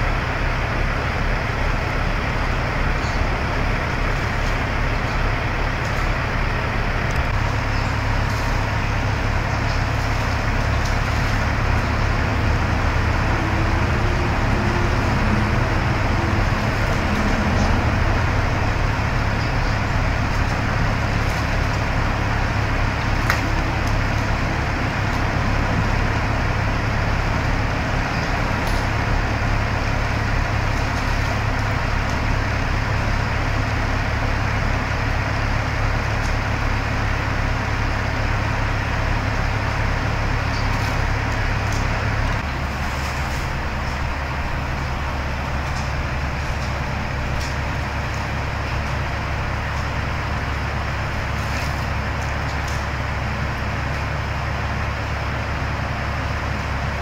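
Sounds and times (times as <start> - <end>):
engine droning: 0.0 - 57.0.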